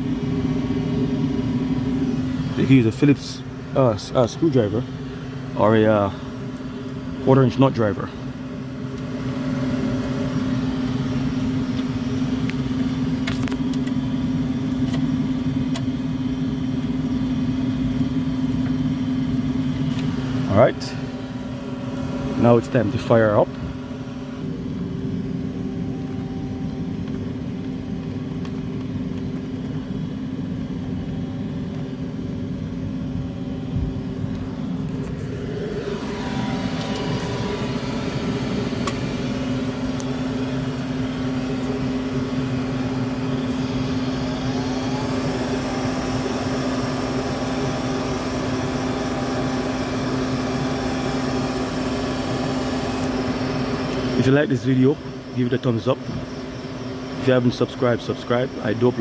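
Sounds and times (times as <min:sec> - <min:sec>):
furnace inducer motor humming: 0:00.0 - 0:59.0.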